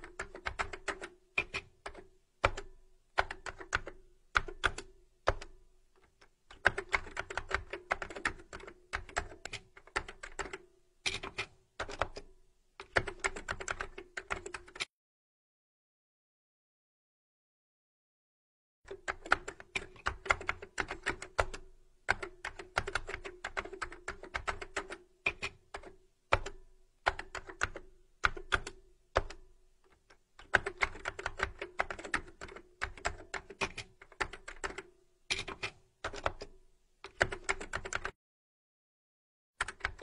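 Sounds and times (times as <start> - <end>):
keyboard typing: 0.0 - 14.9, 18.9 - 38.2, 39.6 - 40.0.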